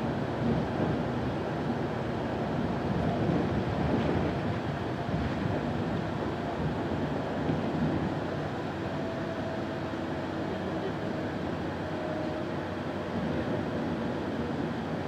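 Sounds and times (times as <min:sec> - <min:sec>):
bus engine and tyres rumbling: 0:00.0 - 0:15.0.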